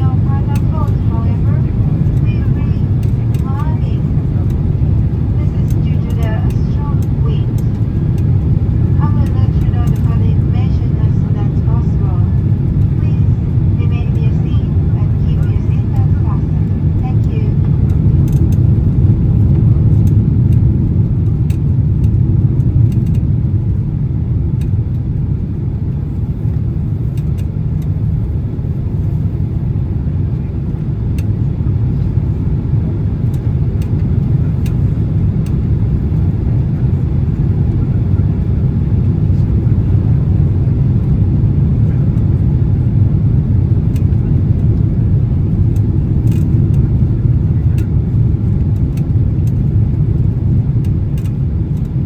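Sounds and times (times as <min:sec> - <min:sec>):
aircraft engine and airflow rumble: 0:00.0 - 0:52.0.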